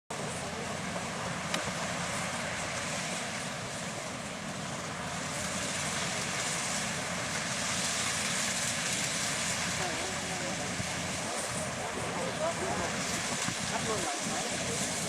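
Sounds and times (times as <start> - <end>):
harvester engine and machinery: 0.1 - 15.0.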